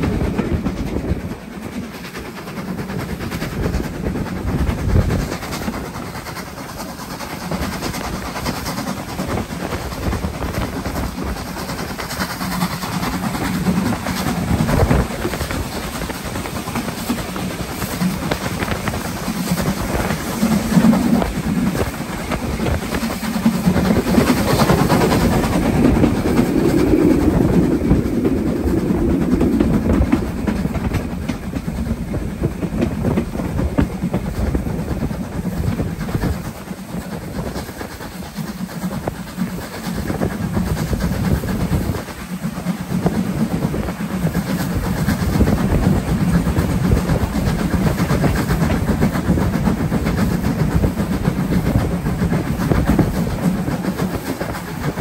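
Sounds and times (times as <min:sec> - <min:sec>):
steam locomotive running rumble: 0:00.0 - 0:55.0
wheel-on-rail clatter: 0:00.0 - 0:55.0.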